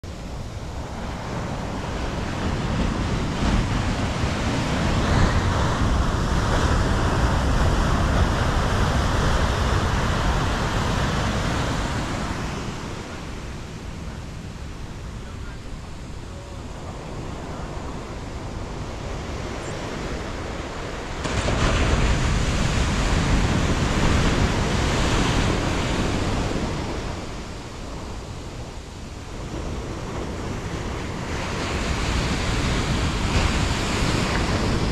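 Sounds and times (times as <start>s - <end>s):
ocean surf breaking on beach: 0.0s - 34.9s.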